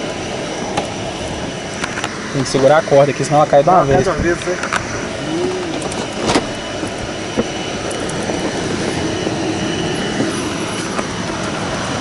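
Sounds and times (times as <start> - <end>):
aircraft turbine engine rushing: 0.0 - 12.0.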